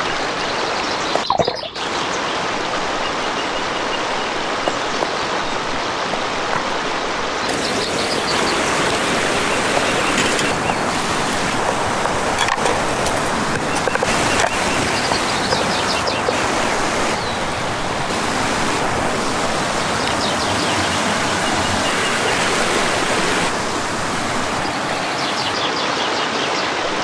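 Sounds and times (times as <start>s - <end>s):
steady rushing noise: 2.4s - 25.5s.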